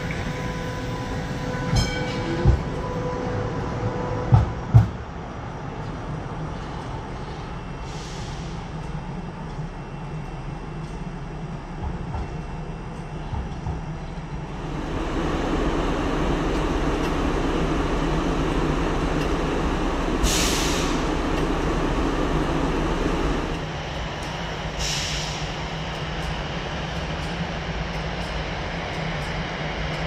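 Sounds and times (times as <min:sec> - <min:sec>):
tram rumbling and clattering: 0:00.0 - 0:30.0.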